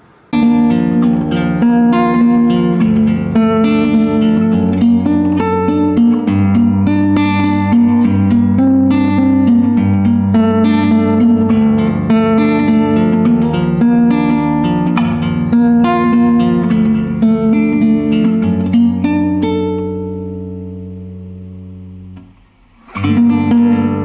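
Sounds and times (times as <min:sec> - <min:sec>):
plucked string notes: 0:00.0 - 0:24.0.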